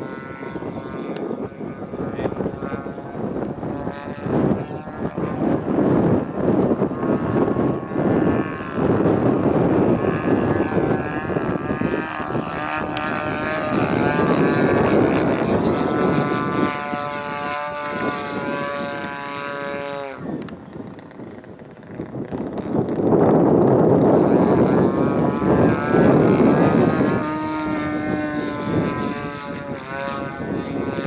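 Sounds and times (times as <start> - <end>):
model plane engine and propeller: 0.0 - 31.0.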